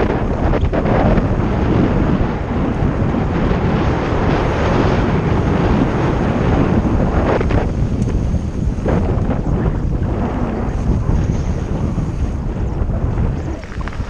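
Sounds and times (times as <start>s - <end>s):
bike rattling on rough trail: 0.0s - 14.0s
wind buffeting microphone: 0.0s - 14.0s.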